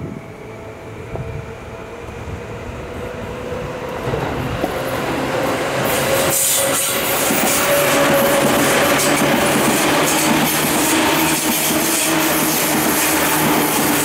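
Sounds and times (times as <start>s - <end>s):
electric train passing: 0.0s - 14.0s
wheels rumbling on rails: 0.0s - 14.0s.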